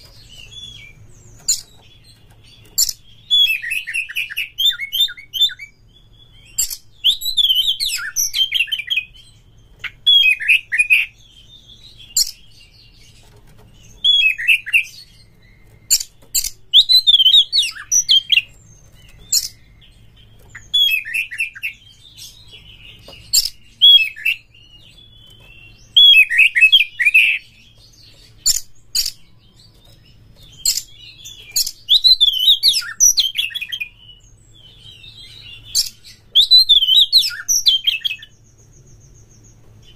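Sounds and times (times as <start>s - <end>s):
bird whistled song phrases: 2.5s - 13.0s, 13.8s - 39.9s.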